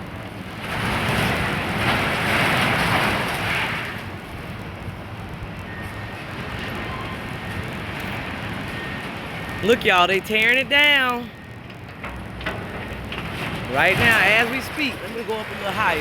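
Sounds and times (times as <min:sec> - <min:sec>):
demolition machinery engine rumble: 0:00.0 - 0:16.0.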